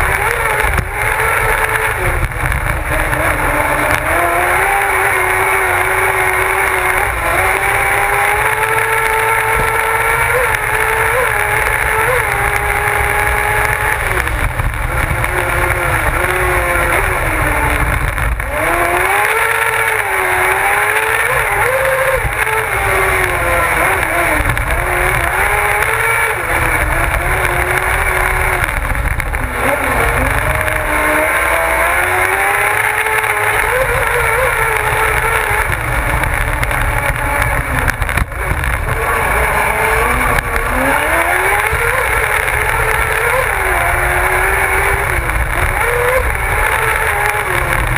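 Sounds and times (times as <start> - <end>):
motorcycle engine revving: 0.0 - 47.9
wind and road noise: 0.0 - 47.9.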